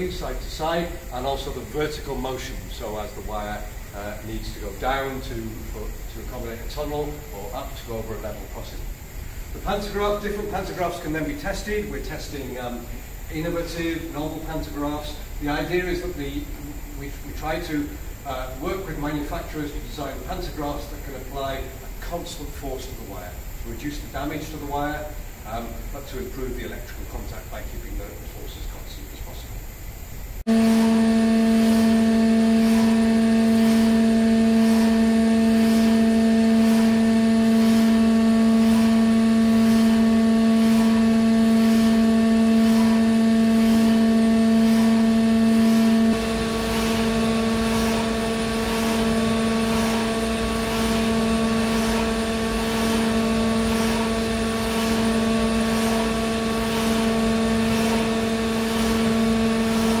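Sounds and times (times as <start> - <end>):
faint regular pulsing: 0.0 - 60.0
machine hum with pitched whine: 0.0 - 60.0.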